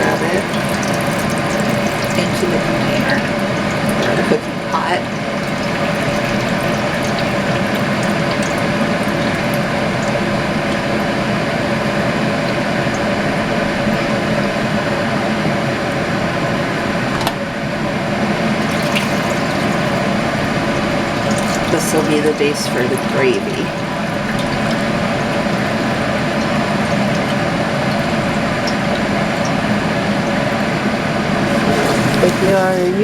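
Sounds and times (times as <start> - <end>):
liquid trickling and splashing: 0.0 - 14.3, 18.4 - 33.0.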